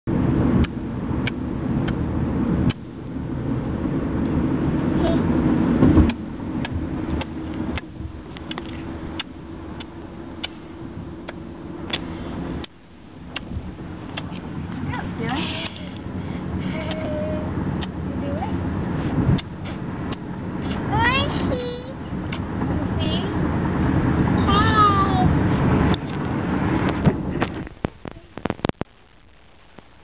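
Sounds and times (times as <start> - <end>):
car cabin rumble: 0.1 - 30.0.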